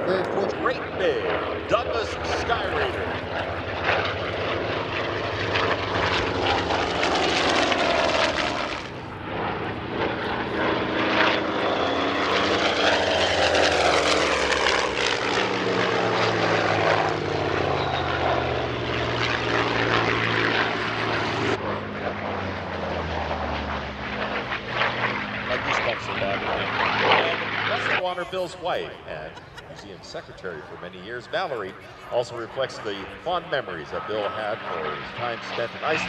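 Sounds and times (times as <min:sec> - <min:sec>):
propeller plane engine droning: 0:00.0 - 0:36.0.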